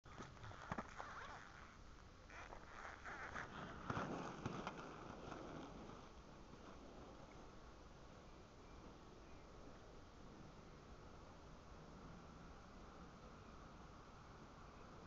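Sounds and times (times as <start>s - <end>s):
inline skates rolling on asphalt: 0.1s - 15.0s.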